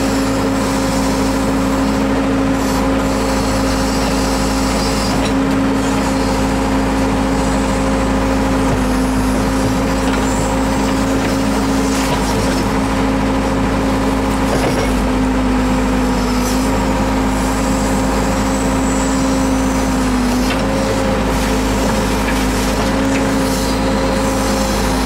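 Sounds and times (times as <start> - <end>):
backhoe diesel engine running: 0.0 - 25.0.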